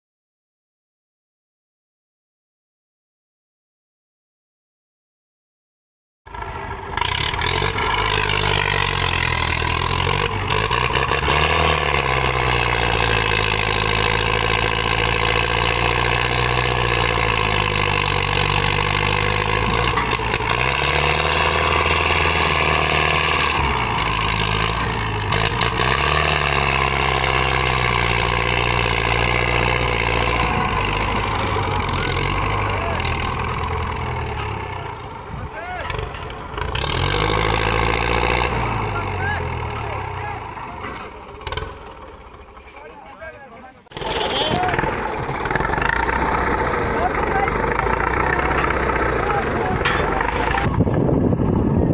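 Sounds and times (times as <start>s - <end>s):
tractor diesel engine labouring: 6.3s - 51.9s.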